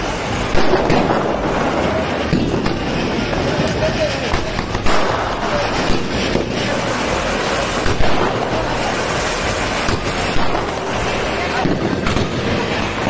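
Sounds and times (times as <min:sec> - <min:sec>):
fireworks fountain hissing: 0:00.0 - 0:13.0
sharp firework pops: 0:00.0 - 0:13.0.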